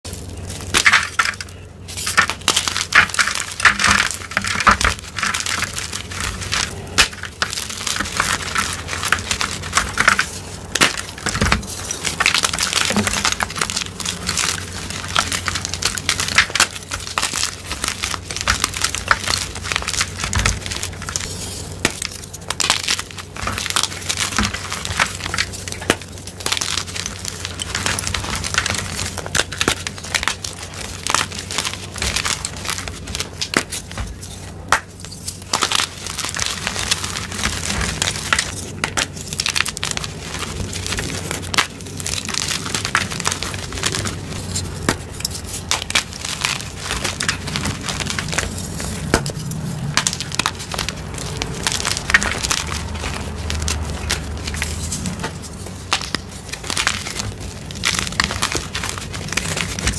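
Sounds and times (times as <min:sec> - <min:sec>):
chalk crushed in hands: 0:00.0 - 0:59.9.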